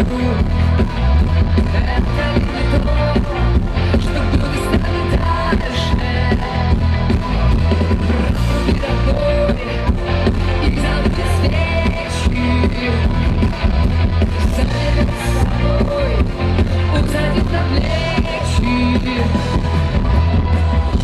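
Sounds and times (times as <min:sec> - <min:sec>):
woman singing: 0:00.0 - 0:00.9, 0:01.6 - 0:06.9, 0:08.2 - 0:13.4, 0:14.3 - 0:19.7
live rock band with heavy bass: 0:00.0 - 0:21.0.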